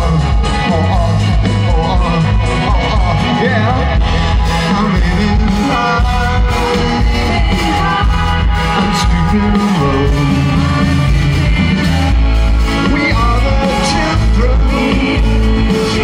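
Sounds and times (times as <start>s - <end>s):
bass guitar: 0.0s - 16.0s
drums: 0.0s - 16.0s
electric guitar: 0.0s - 16.0s
man singing into a microphone: 0.0s - 16.0s.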